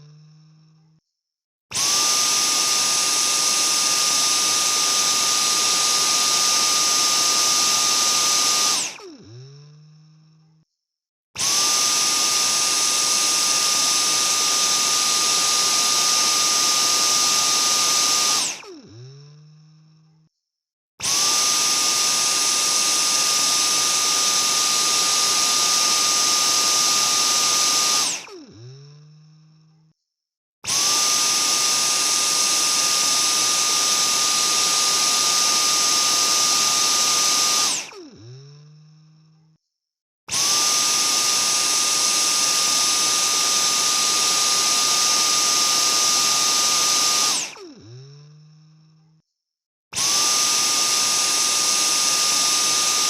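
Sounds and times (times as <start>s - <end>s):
vacuum cleaner winding down: 0.0s - 0.8s, 1.7s - 10.4s, 11.4s - 20.1s, 21.0s - 29.7s, 30.6s - 39.4s, 40.3s - 49.0s, 49.9s - 53.0s
vacuum cleaner running: 1.7s - 10.2s, 11.4s - 19.8s, 21.0s - 29.5s, 30.6s - 39.1s, 40.3s - 48.9s, 49.9s - 53.0s.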